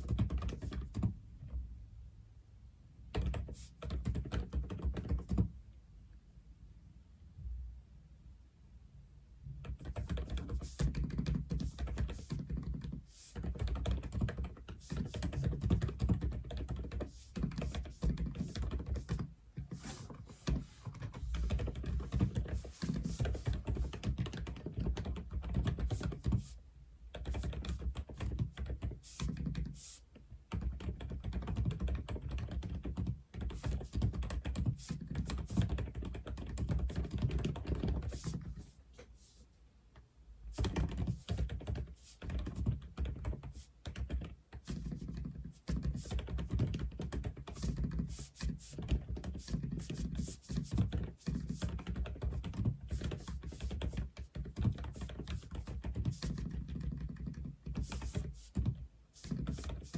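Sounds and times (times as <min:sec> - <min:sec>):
fast mechanical keyboard typing: 0:00.0 - 0:01.1, 0:03.2 - 0:05.5, 0:09.6 - 0:26.5, 0:27.1 - 0:29.7, 0:30.5 - 0:38.6, 0:40.6 - 0:59.9.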